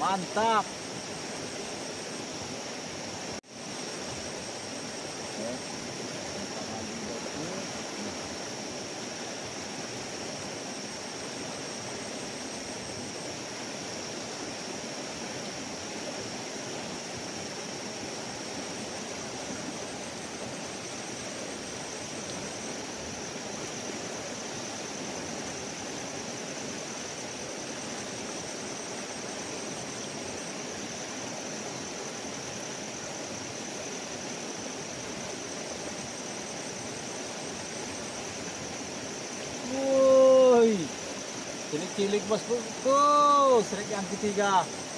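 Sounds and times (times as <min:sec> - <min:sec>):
river rushing: 0:00.0 - 0:44.9.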